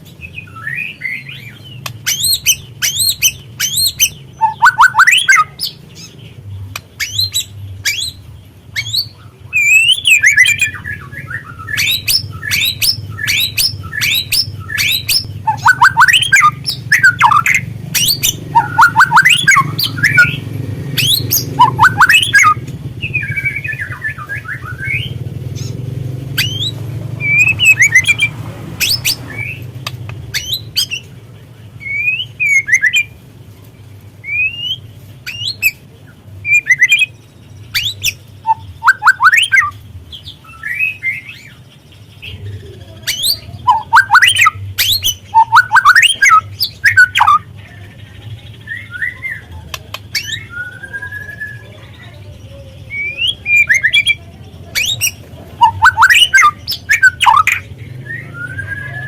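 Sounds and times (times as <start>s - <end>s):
bird whistling and chirping: 0.2s - 6.1s, 6.8s - 20.4s, 21.0s - 25.2s, 26.4s - 29.7s, 30.3s - 31.1s, 31.8s - 33.2s, 34.2s - 35.8s, 36.4s - 39.8s, 42.3s - 47.5s, 48.6s - 52.0s, 52.8s - 59.0s.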